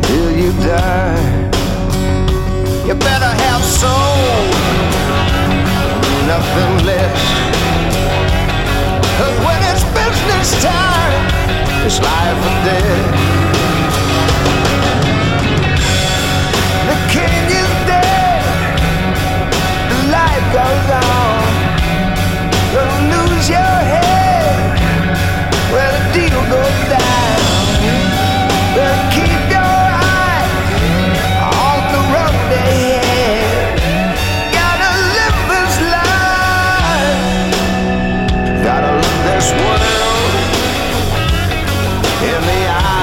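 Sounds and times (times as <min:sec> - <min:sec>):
rock music with singing: 0:00.0 - 0:43.0.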